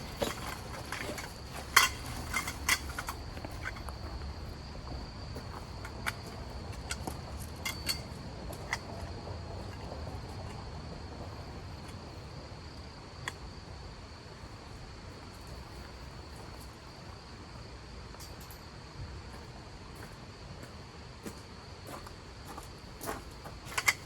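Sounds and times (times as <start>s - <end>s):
cricket trilling: 0.0s - 24.0s.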